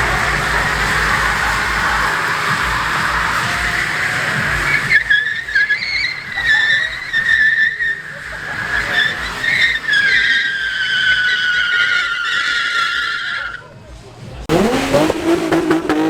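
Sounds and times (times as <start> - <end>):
car tyres squealing: 0.0 - 16.0.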